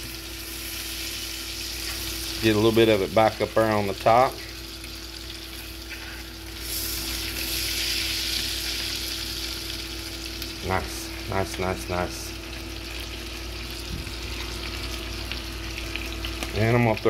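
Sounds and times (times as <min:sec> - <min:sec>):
fish sizzling in a frying pan: 0:00.0 - 0:17.0.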